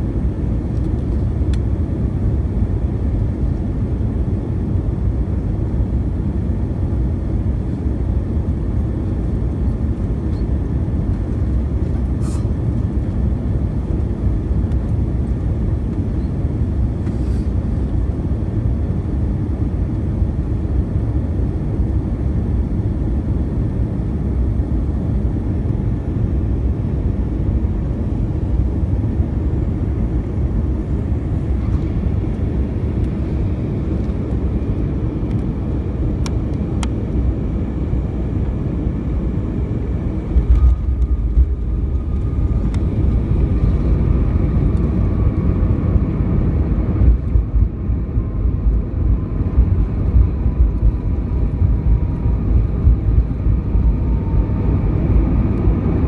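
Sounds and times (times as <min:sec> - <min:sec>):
airplane engines rumbling in cabin: 0:00.0 - 0:56.0.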